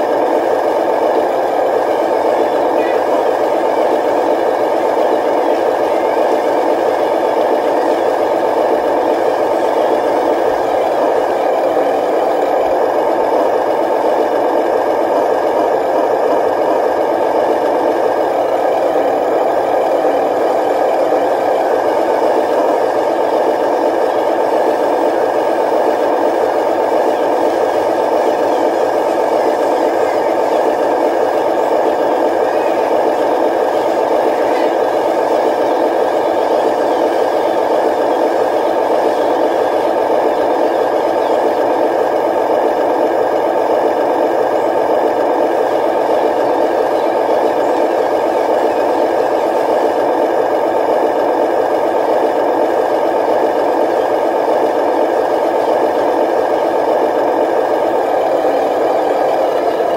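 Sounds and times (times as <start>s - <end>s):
toy dump trucks running: 0.0s - 59.9s.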